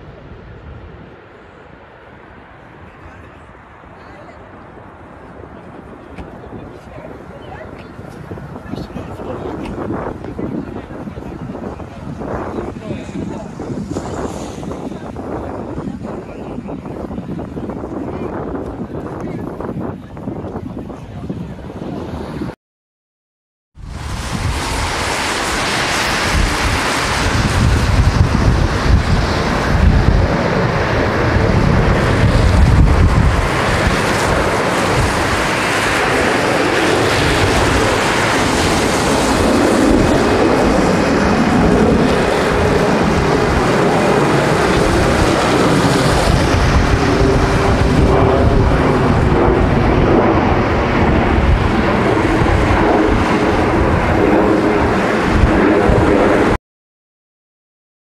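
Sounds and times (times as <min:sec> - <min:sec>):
jet airliners landing: 0:00.0 - 0:22.6, 0:23.8 - 0:56.6
wind buffeting microphone: 0:02.6 - 0:22.6, 0:23.8 - 0:56.6.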